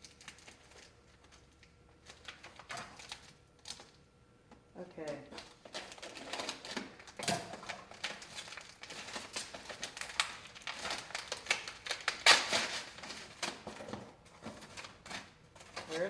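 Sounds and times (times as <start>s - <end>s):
paper packaging rustling and tearing: 0.0s - 4.0s, 5.3s - 16.0s.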